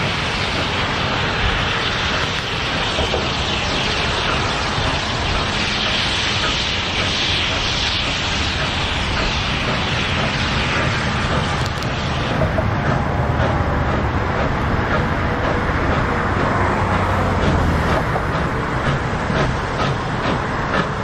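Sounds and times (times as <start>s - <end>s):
steam hissing: 0.0s - 21.0s
steam locomotive chuffing: 0.0s - 21.0s
train rumble: 0.0s - 21.0s.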